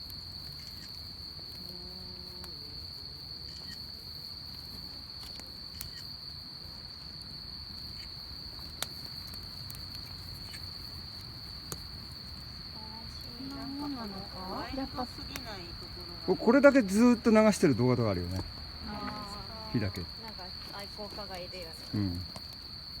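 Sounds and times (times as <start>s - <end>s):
campfire wood crackling: 0.0s - 23.0s
insects trilling: 0.0s - 23.0s.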